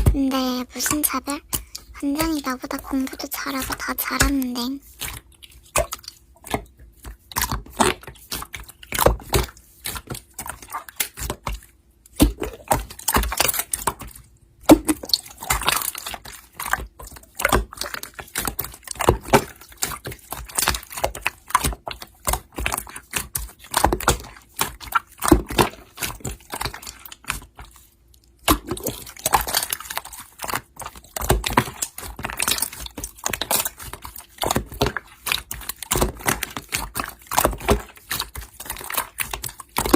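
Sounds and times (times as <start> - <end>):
slime squishing by hand: 0.0 - 39.9.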